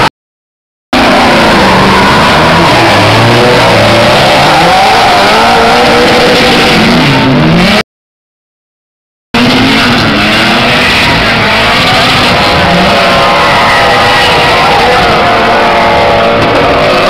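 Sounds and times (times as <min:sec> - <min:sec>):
car engines revving: 0:01.0 - 0:07.8, 0:09.4 - 0:17.0
tires squealing: 0:01.0 - 0:07.8, 0:09.4 - 0:17.0.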